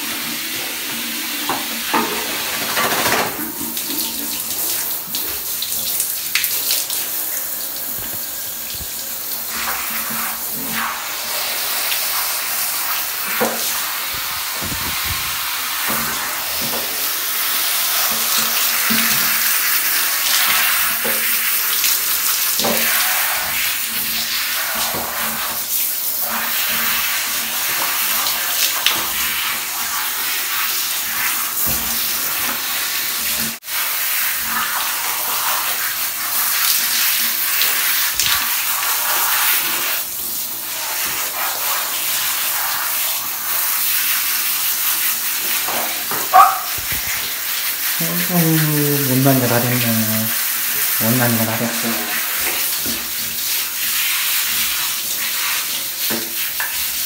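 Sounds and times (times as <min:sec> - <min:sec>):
shower head spraying water: 0:00.0 - 0:57.0.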